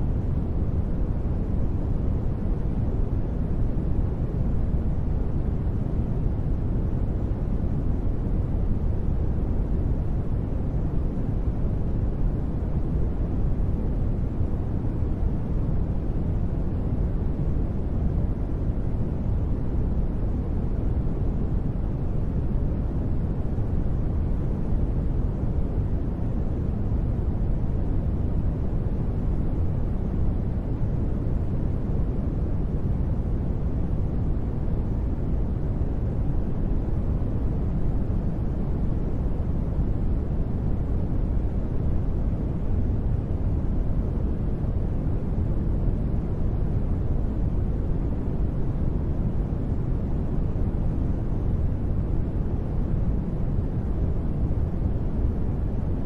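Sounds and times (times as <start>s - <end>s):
steady brown noise rush: 0.0s - 56.0s.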